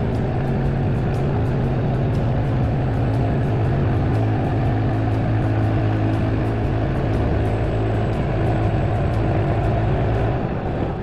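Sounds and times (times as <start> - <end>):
bandsaw mill engine humming: 0.0 - 11.0.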